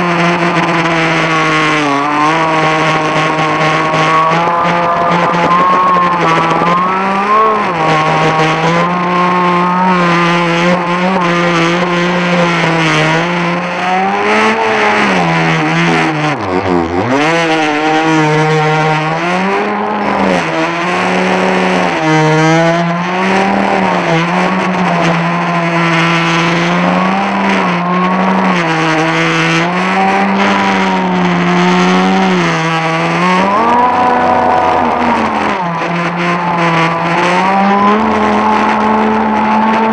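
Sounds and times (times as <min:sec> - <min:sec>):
model boat motor whining: 0:00.6 - 0:13.9, 0:18.6 - 0:39.9.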